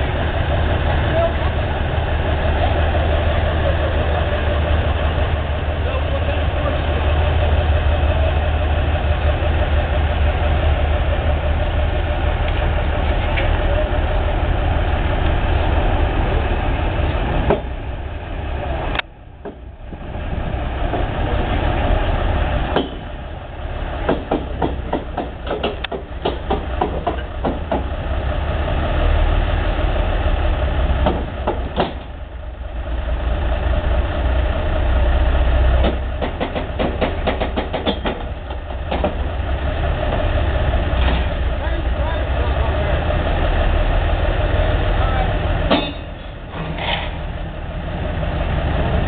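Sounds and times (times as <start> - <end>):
heavy engine idling: 0.0 - 49.0.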